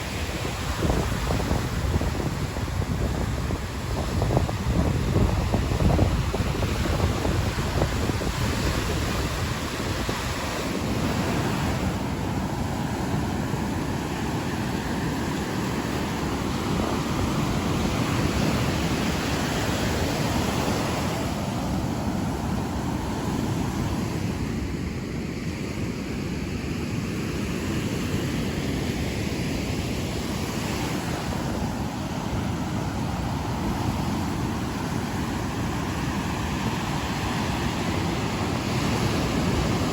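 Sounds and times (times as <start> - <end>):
wind buffeting microphone: 0.0 - 24.8, 27.9 - 39.9
waves breaking on shore: 0.0 - 39.9.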